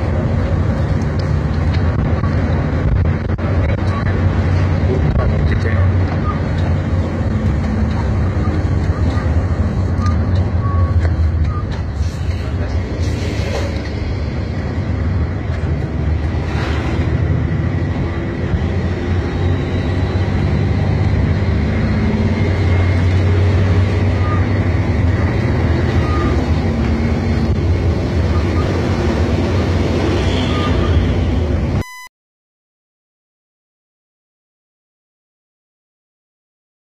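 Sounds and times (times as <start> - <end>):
bus engine and road noise: 0.0 - 32.1.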